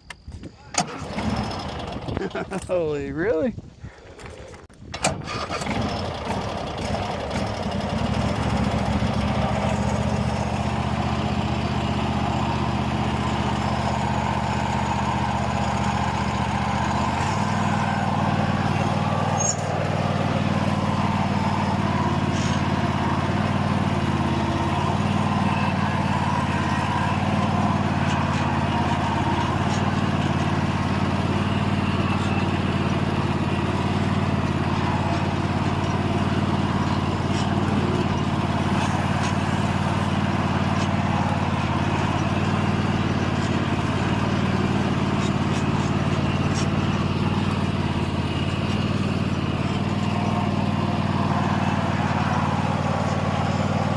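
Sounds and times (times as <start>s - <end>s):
lawn mower engine running: 0.6s - 3.1s, 3.9s - 53.9s.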